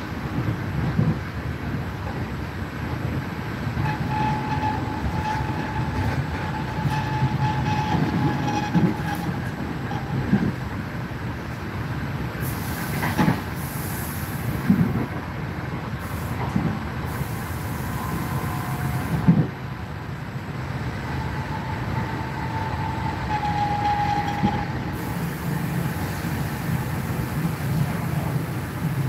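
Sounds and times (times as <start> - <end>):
passenger train rumbling: 0.0 - 29.0.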